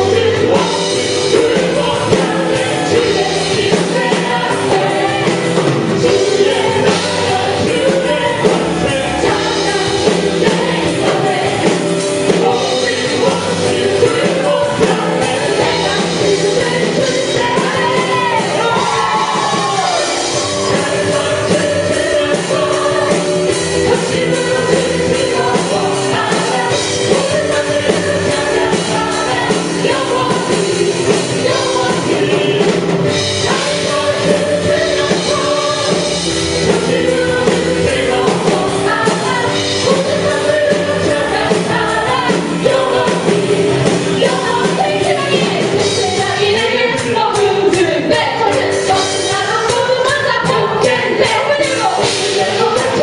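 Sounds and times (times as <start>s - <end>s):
people singing: 0.0s - 53.0s
rock band with steady beat: 0.0s - 53.0s.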